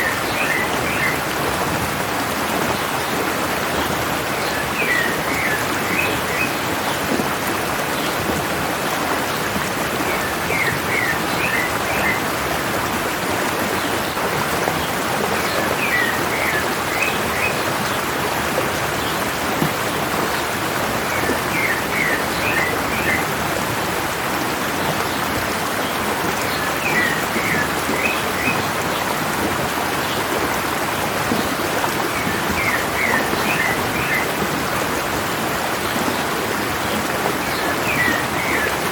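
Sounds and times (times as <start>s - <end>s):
mountain stream running: 0.0s - 38.9s.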